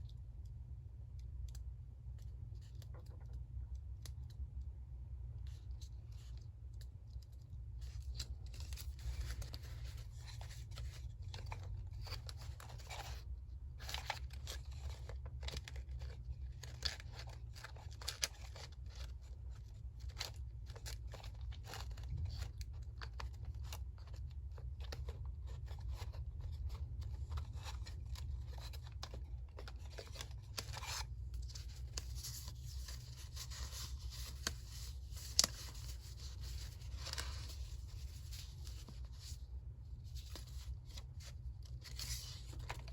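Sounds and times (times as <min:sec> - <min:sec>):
paper crackling and rustling: 0:07.6 - 0:42.9.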